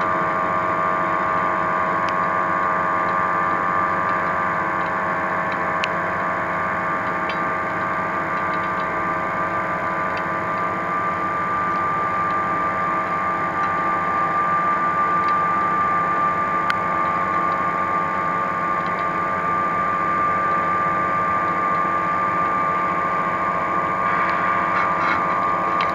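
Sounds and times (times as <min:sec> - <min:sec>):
mechanical hum: 0:00.0 - 0:25.9.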